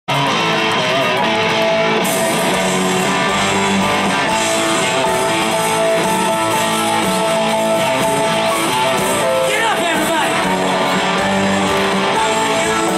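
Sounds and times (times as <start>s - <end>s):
electric guitar: 0.1s - 12.9s
live rock band playing: 0.1s - 12.9s.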